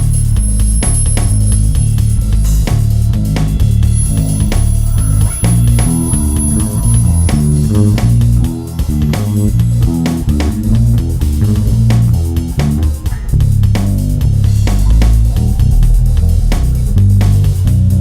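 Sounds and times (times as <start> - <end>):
bass guitar solo: 0.0 - 18.0
beat of sharp hits: 0.0 - 18.0.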